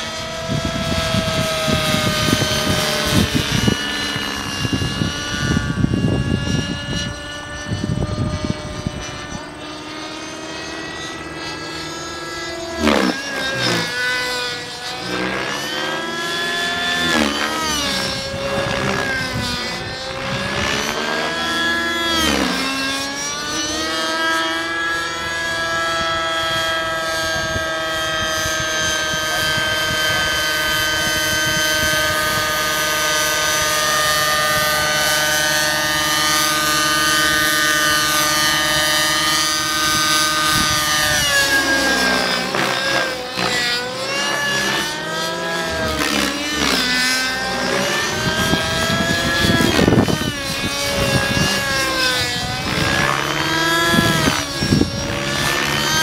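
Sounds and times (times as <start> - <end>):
model helicopter engine screaming: 0.0 - 56.0.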